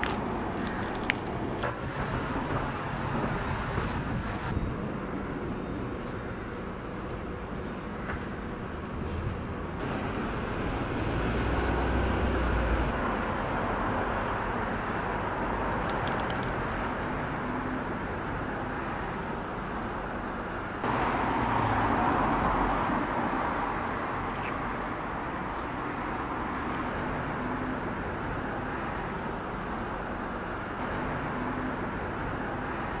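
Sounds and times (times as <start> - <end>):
roadside traffic hum: 0.0 - 33.0.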